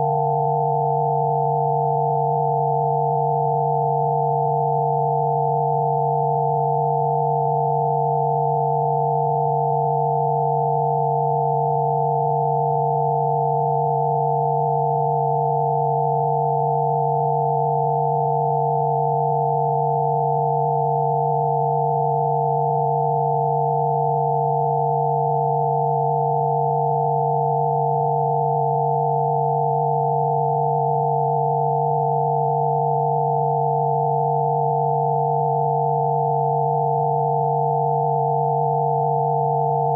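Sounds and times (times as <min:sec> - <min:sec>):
steady electronic sine tones: 0:00.0 - 0:39.9.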